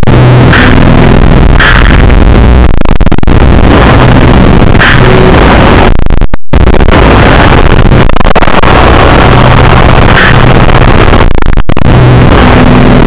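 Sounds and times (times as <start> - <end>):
loud distorted noise: 0.0 - 13.0.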